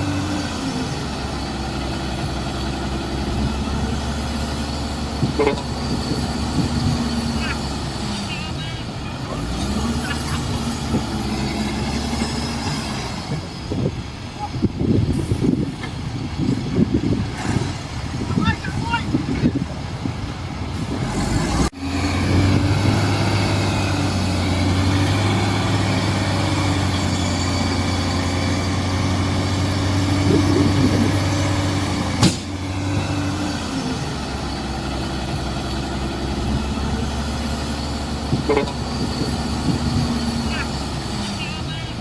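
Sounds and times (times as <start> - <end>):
diesel engine of heavy machinery: 0.0 - 42.0.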